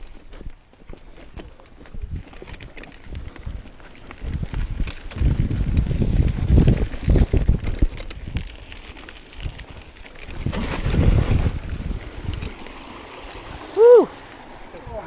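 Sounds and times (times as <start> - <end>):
bike clicks and rattles: 0.0 - 15.0
bike tyres rumbling on dirt: 0.0 - 15.0
wind buffeting microphone: 1.2 - 15.0.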